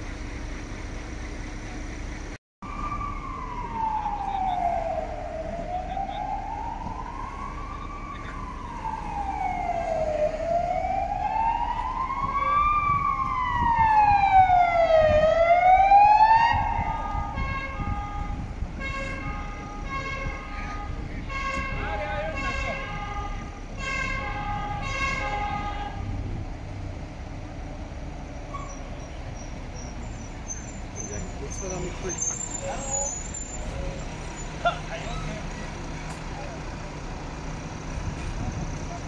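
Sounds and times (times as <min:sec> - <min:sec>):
emergency vehicle siren wailing: 0:00.0 - 0:39.0
street noise: 0:00.0 - 0:39.0.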